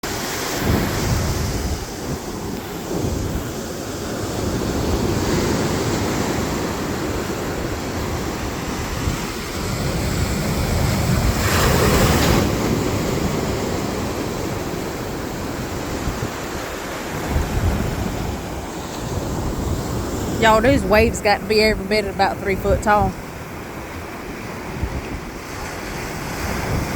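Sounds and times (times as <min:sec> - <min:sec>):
waves breaking on beach: 0:00.0 - 0:26.9
wind buffeting microphone: 0:00.0 - 0:26.9.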